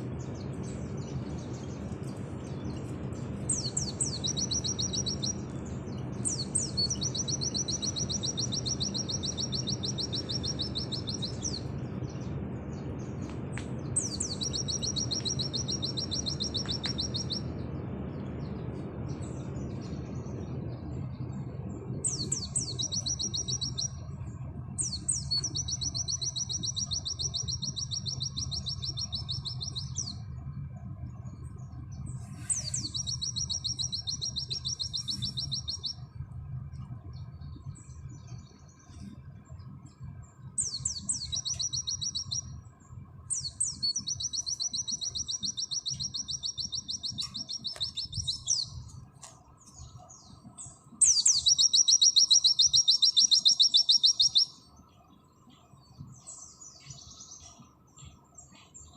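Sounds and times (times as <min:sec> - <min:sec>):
bird singing high rapid trills: 0:00.0 - 0:58.9.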